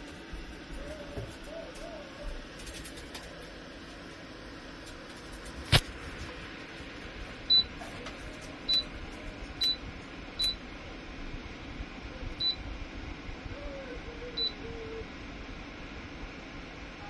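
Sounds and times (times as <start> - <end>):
fan hiss: 0.0 - 17.0.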